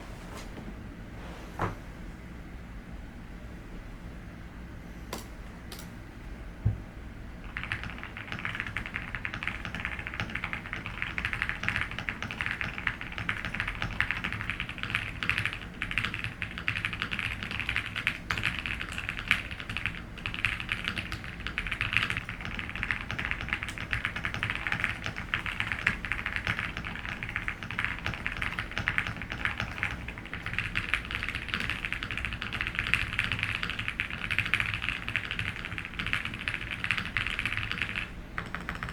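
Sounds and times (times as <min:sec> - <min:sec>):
air conditioner humming: 0:00.0 - 0:38.9
fast mechanical keyboard typing: 0:07.4 - 0:38.9.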